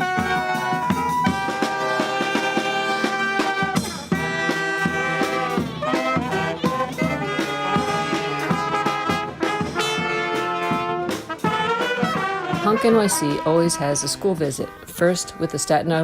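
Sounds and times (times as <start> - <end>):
percussion hits: 0.0 - 14.6
brass band playing: 0.0 - 16.0.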